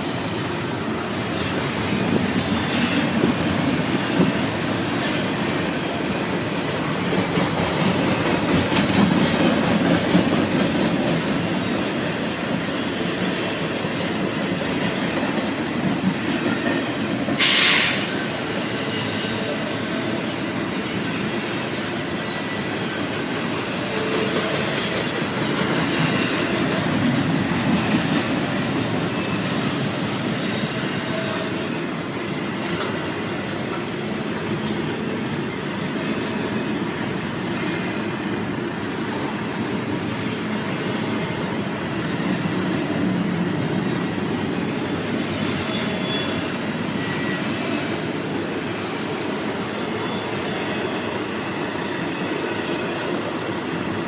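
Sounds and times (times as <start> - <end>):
freight train cars rolling: 0.0 - 54.0.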